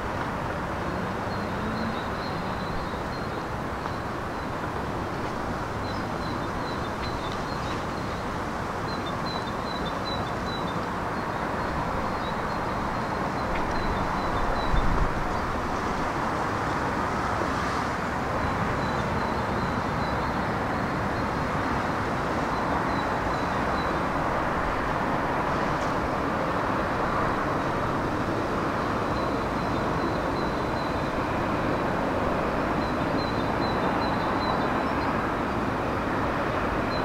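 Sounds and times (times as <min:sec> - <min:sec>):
road traffic hum: 0:00.0 - 0:37.0.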